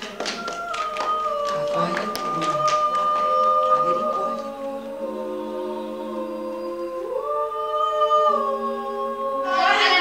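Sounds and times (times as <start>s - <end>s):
voices singing a cappella: 0.0s - 10.0s.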